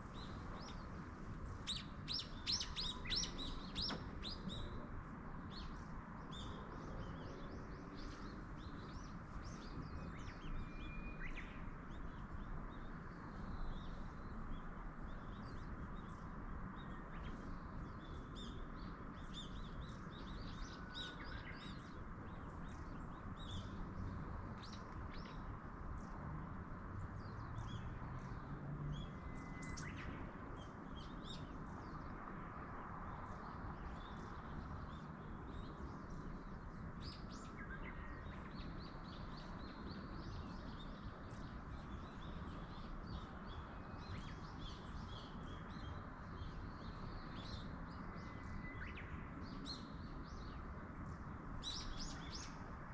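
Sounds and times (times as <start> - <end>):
small birds chirping: 0.0 - 26.2, 33.2 - 52.9.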